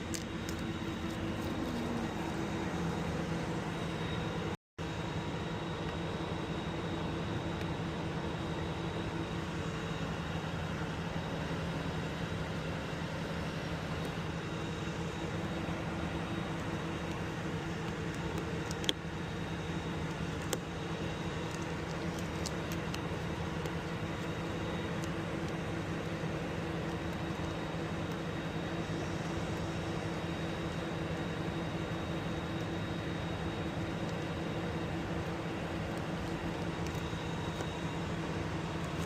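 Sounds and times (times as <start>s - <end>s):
engine idling hum: 0.0s - 39.0s.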